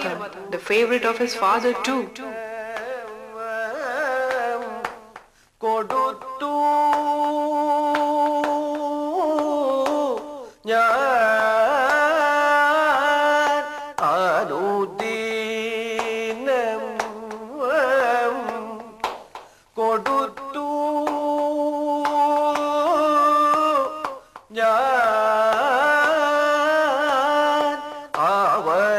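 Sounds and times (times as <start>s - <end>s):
man singing: 0.0s - 28.9s.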